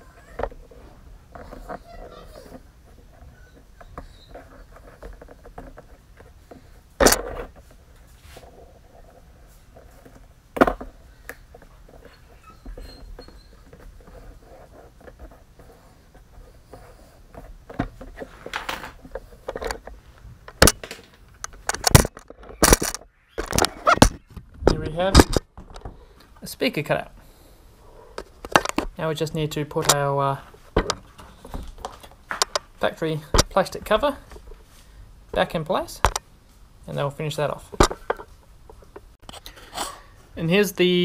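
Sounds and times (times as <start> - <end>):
faint vinyl rustling: 0.0 - 41.0.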